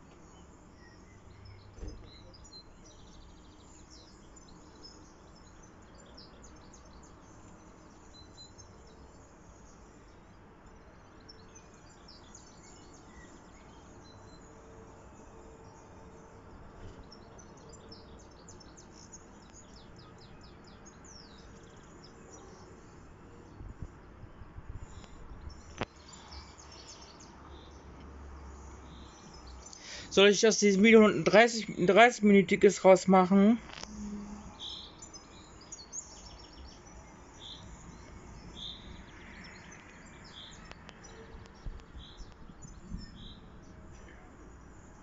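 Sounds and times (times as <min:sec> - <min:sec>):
birds chirping and singing: 0:00.1 - 0:23.6, 0:24.9 - 0:45.0.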